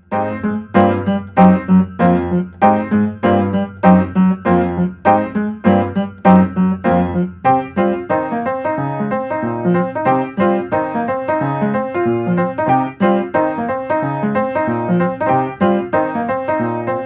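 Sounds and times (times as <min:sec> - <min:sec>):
electronic piano chords: 0:00.0 - 0:17.0.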